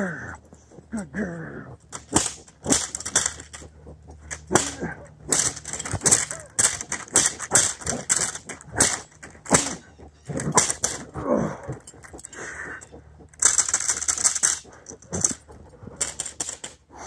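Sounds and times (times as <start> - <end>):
dog breathing and growling: 0.0 - 17.0.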